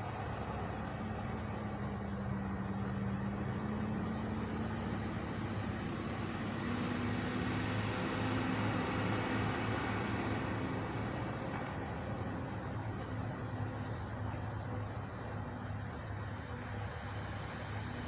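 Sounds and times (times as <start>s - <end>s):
truck engines idling: 0.0s - 18.0s.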